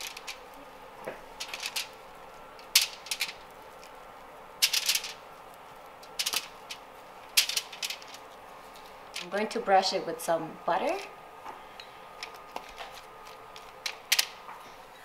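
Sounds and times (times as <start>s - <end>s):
aluminium foil crackling: 0.0s - 15.0s.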